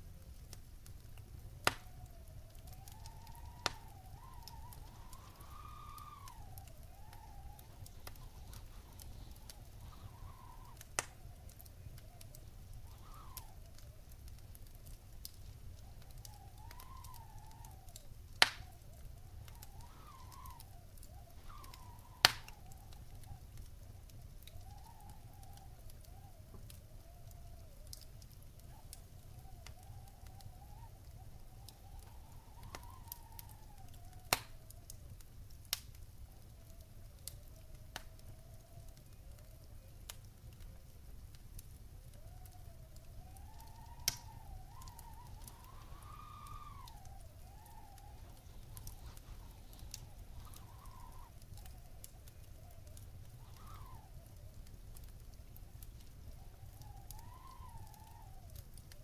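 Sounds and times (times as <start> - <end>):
wood fire crackling: 0.0 - 59.0
faint wavering whistle: 1.7 - 35.1, 42.1 - 59.0.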